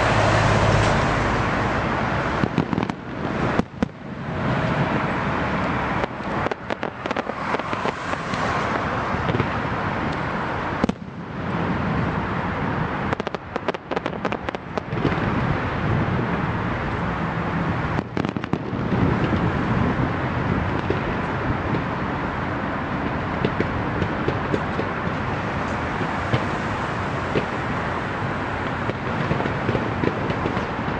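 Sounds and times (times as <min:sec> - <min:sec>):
steady loud noise: 0:00.0 - 0:30.9
fireworks pops and crackles: 0:02.3 - 0:16.4, 0:17.6 - 0:30.9.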